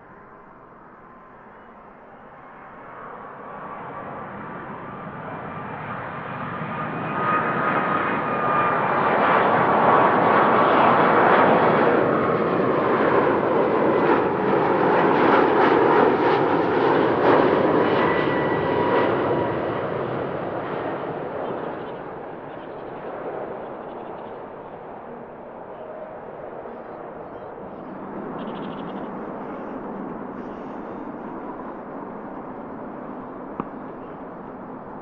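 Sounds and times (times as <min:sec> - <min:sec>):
jet airliner passing: 0:00.0 - 0:35.0.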